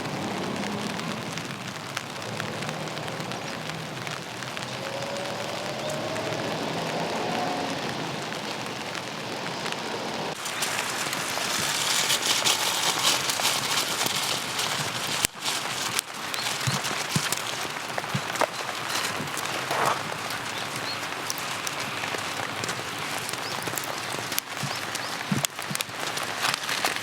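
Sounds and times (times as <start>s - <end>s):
rain pattering on surfaces: 0.0s - 27.0s.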